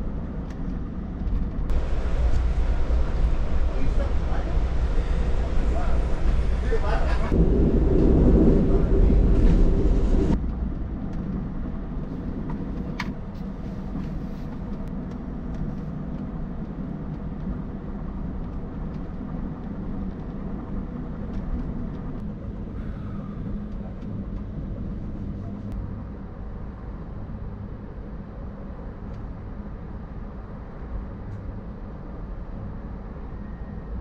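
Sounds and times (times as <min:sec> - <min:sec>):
train car rumble and hum: 0:00.0 - 0:34.0.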